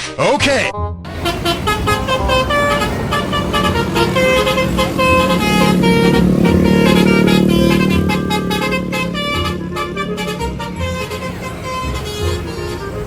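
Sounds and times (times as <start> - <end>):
multi-tone horn honking: 1.1 - 13.0
vehicle engine running: 1.1 - 13.0.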